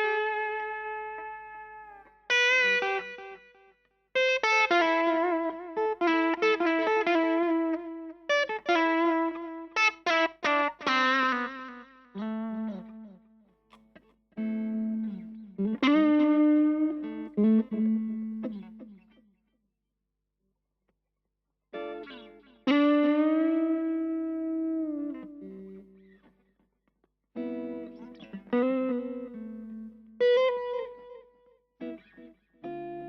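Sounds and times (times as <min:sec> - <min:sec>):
electric guitar with delay: 0:00.0 - 0:03.6, 0:04.2 - 0:13.2, 0:13.9 - 0:19.2, 0:21.8 - 0:26.3, 0:27.4 - 0:33.0.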